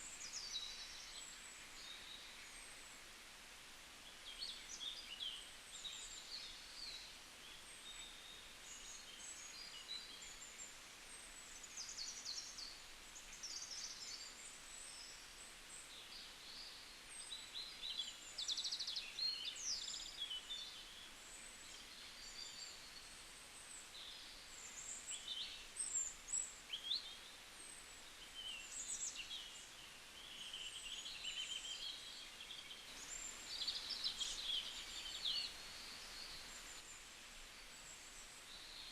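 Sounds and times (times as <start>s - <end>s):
steady faint hiss: 0.0s - 38.9s.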